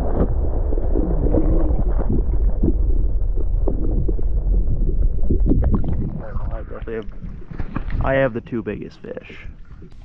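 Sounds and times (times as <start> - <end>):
underwater water rumble: 0.0 - 10.0.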